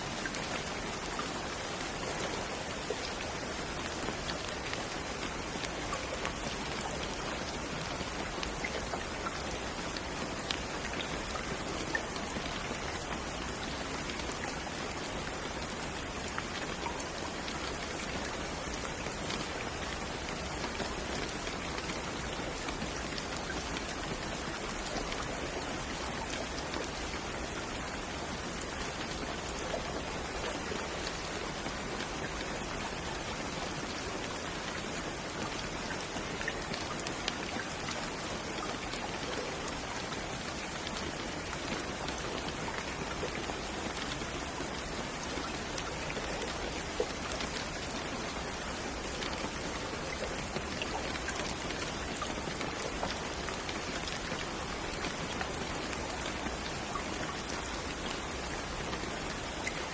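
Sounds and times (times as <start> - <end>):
steady rain falling: 0.0 - 59.9
raindrop ticks: 0.2 - 59.8.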